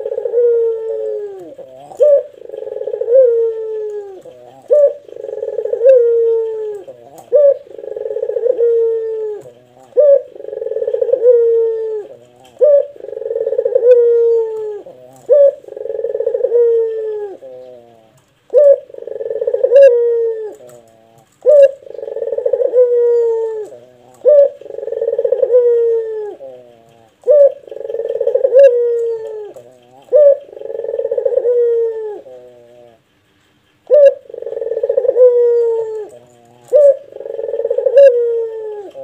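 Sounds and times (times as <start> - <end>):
dove cooing: 0.0 - 39.0.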